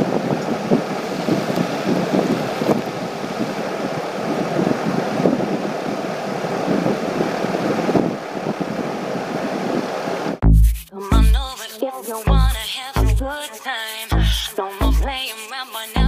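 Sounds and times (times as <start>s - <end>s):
steady rushing air noise: 0.0s - 14.6s.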